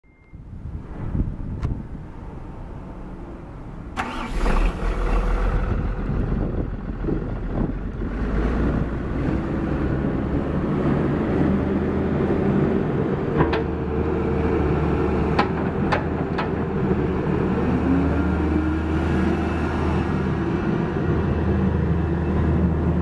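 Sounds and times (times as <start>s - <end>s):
excavator diesel engine running: 4.0s - 23.0s.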